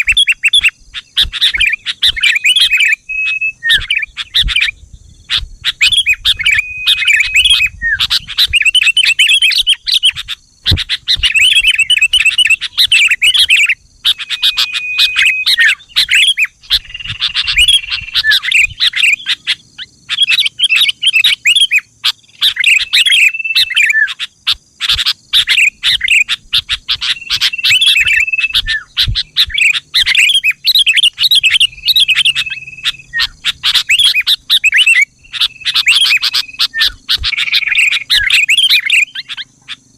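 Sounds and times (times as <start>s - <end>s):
bulbul singing chattering chirps: 0.0s - 39.9s.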